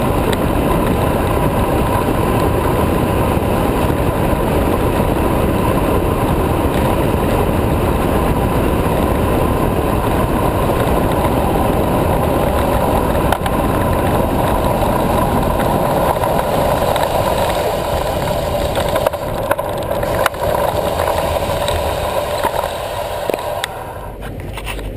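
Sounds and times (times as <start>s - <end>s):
steady whine: 0.0s - 24.9s
tyre noise on road: 0.0s - 24.9s
wind rushing over microphone: 0.0s - 24.9s.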